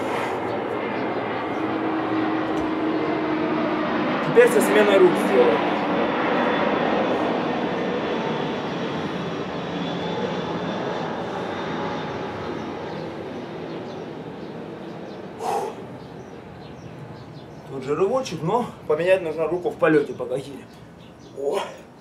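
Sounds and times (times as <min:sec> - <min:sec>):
aircraft engine rumble: 0:00.0 - 0:22.0.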